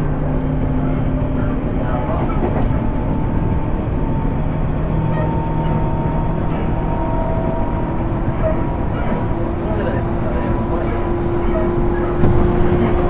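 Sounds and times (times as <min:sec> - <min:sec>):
traction motor gear whine: 0:00.0 - 0:13.0
train wheels rumbling on rail: 0:00.0 - 0:13.0.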